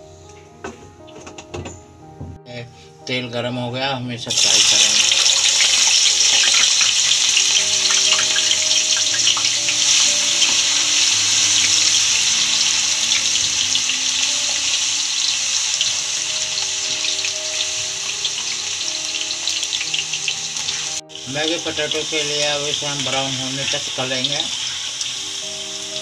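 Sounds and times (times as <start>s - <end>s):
potatoes sizzling in hot oil: 4.3s - 26.0s.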